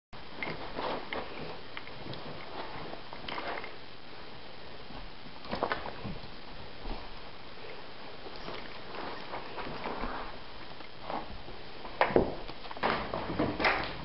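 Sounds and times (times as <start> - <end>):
steady hiss: 0.2 - 14.0.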